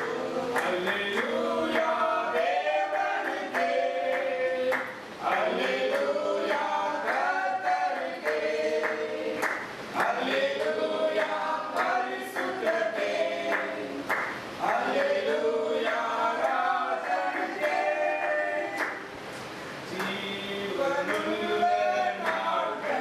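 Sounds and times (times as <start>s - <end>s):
hand claps: 0.0s - 1.9s, 3.0s - 7.3s, 8.0s - 12.8s, 13.4s - 20.2s, 21.0s - 22.5s
congregation singing: 0.0s - 23.0s.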